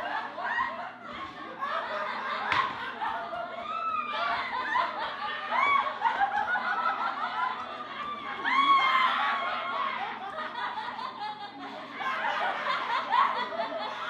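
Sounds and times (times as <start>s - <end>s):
people laughing: 0.0s - 14.0s.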